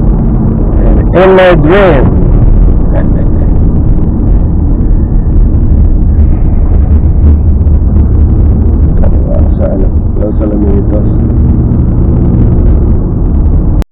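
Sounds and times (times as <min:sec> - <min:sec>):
car driving heard from cabin: 0:00.0 - 0:13.8.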